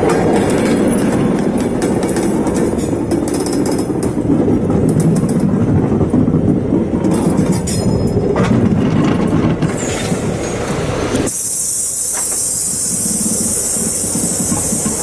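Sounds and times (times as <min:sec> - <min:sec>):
train clatter: 0:00.0 - 0:15.0
train rumbling on track: 0:00.0 - 0:15.0.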